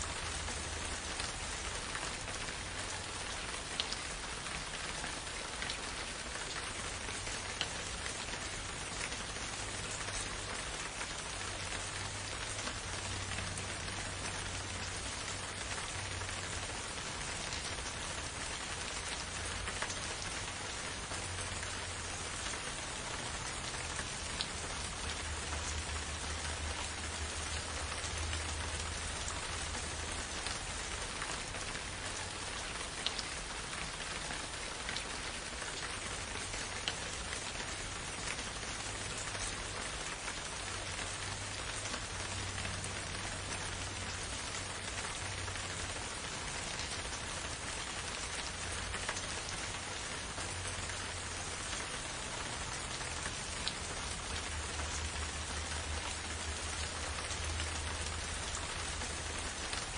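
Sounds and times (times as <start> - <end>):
gentle rainfall: 0.0 - 59.9.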